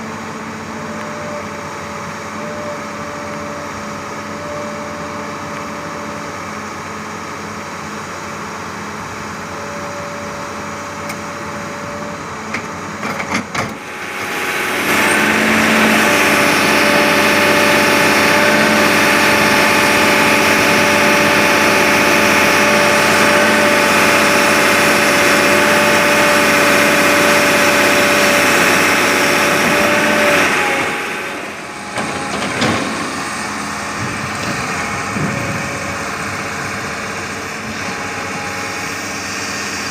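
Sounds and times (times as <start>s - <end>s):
excavator engine and hydraulics whine: 0.0s - 39.9s.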